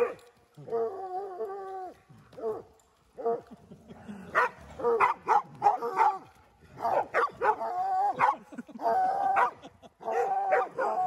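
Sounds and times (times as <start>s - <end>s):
hounds barking and yelping: 0.0s - 3.7s, 4.3s - 11.0s.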